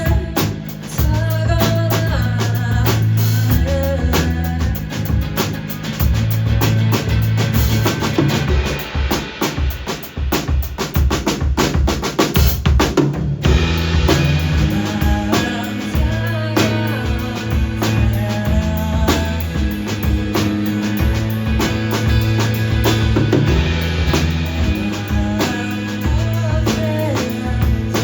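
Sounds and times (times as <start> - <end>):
low bass notes: 0.0 - 9.1, 13.4 - 28.0
drum hits: 0.0 - 28.0
live band playing: 0.0 - 28.0.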